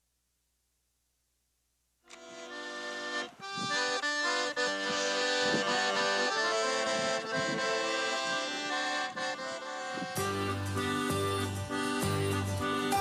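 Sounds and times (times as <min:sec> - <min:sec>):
piano accordion playing: 0:02.1 - 0:13.0.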